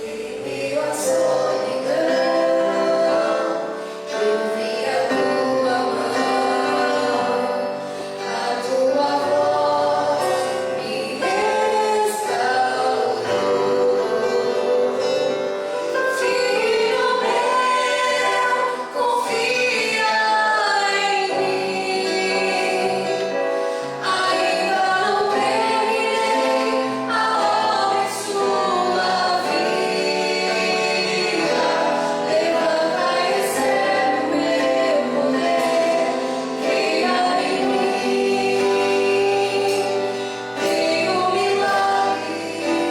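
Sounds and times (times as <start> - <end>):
group singing gospel song: 0.0 - 42.9
instrumental accompaniment: 0.0 - 42.9.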